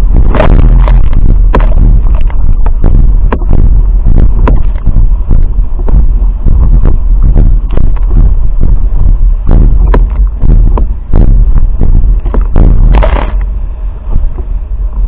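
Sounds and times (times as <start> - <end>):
water slapping and splashing: 0.0 - 8.3, 9.5 - 13.5
wind rumbling on microphone: 0.0 - 15.0.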